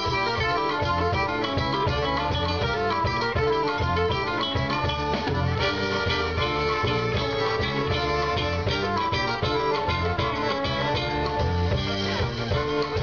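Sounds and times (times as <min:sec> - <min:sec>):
accordion: 0:00.0 - 0:13.0
guitar: 0:00.0 - 0:13.0.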